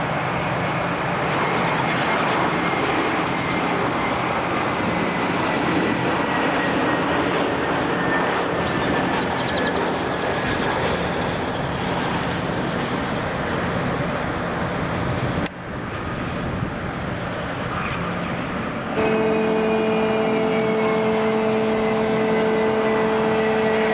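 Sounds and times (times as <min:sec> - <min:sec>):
airplane engines running: 0:00.0 - 0:23.9.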